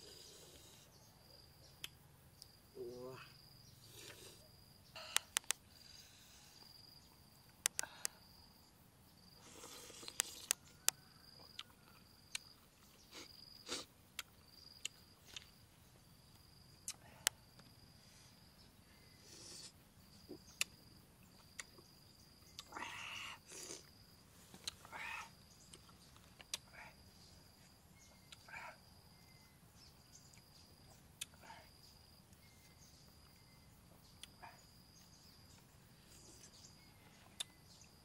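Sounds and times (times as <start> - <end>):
insect trilling: 0.0 - 15.6, 16.2 - 38.0.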